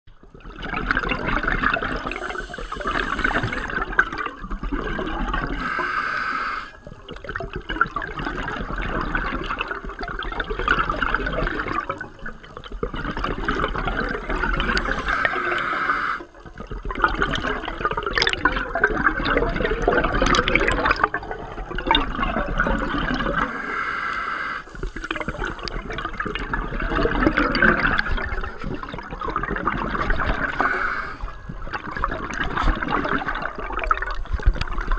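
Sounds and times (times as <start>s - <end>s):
underwater bubbling and rushing water: 0.1s - 34.9s.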